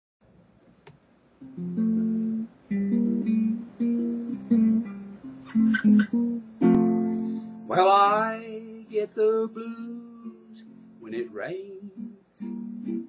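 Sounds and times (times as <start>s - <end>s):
ukulele chords ringing: 1.4s - 13.0s.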